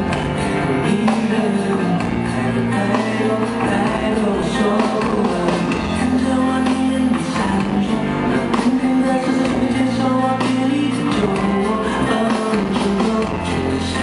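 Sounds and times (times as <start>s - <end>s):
live concert music: 0.0s - 14.0s.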